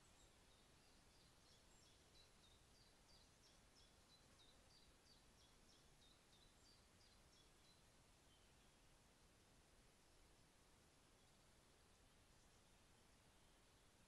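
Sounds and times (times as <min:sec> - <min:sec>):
low hiss: 0:00.0 - 0:14.0.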